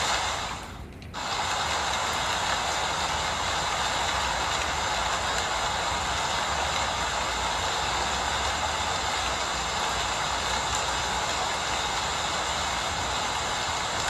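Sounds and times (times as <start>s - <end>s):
low constant rumble: 0.0s - 14.0s
steady rain falling: 0.0s - 14.0s.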